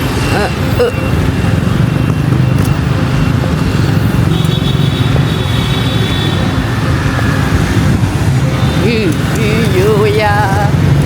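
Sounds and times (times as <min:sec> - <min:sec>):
traffic engine and road noise: 0:00.0 - 0:11.0.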